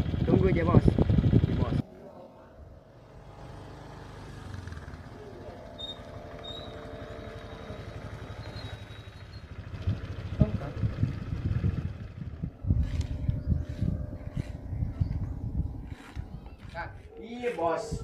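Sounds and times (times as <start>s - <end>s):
scooter engine running: 0.0s - 1.8s, 2.9s - 16.7s.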